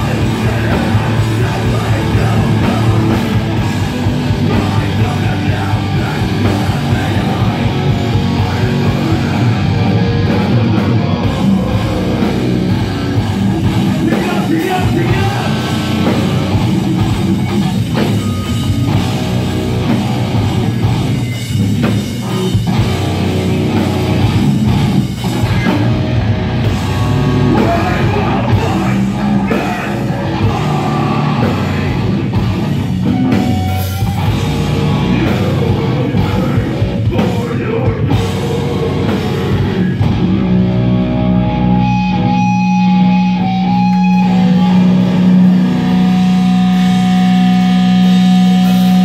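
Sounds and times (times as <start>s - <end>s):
guitars droning: 0.0s - 49.0s
heavy rock band playing live: 0.0s - 49.0s.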